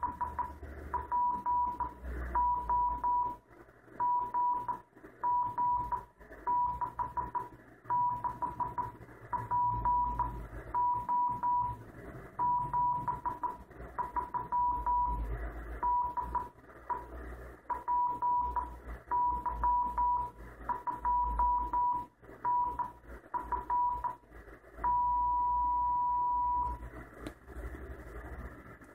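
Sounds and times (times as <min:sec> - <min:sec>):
morse code tone: 0:00.0 - 0:03.4, 0:04.0 - 0:11.8, 0:12.4 - 0:17.1, 0:17.7 - 0:24.2, 0:24.8 - 0:26.8
receiver hiss: 0:00.0 - 0:28.9.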